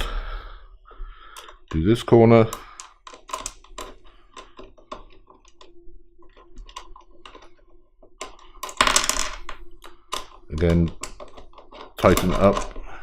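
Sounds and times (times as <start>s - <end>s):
metal washers and nuts clicking: 2.4s - 12.9s.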